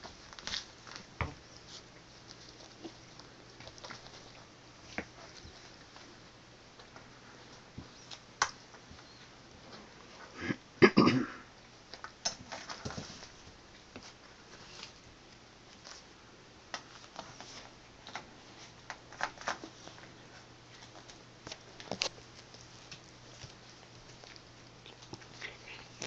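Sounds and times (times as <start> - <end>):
cats scratching and rustling: 0.0 - 10.4, 11.6 - 26.0.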